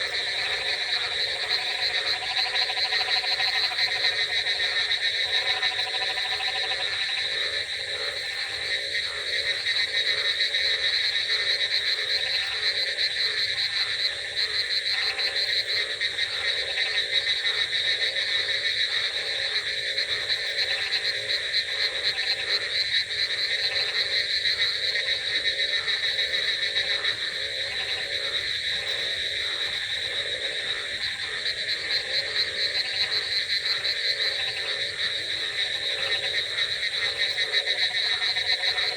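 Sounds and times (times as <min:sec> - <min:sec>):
frogs croaking: 0:00.0 - 0:38.9
frogs trilling: 0:00.0 - 0:38.9.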